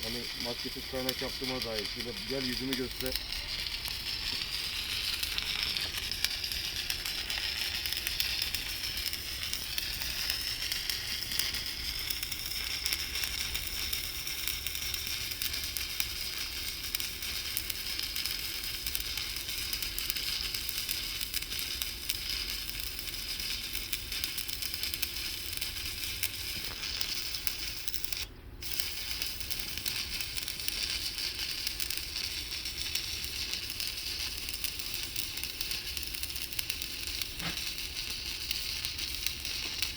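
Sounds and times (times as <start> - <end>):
arc welding crackling sizzle: 0.0 - 39.9.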